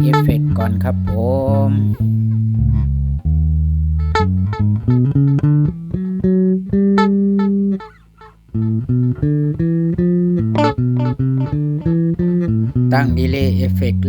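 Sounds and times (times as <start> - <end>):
electric bass: 0.0 - 14.0
electric lute plucked notes: 0.0 - 14.0.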